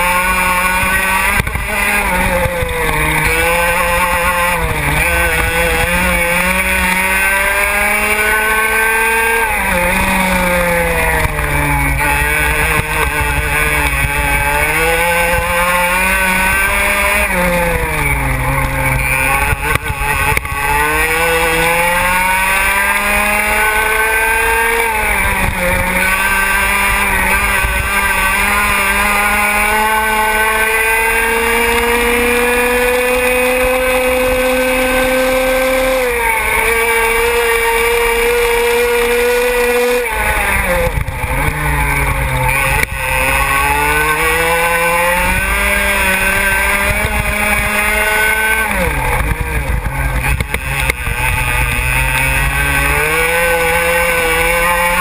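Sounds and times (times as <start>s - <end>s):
kart engine at full throttle: 0.0s - 55.0s.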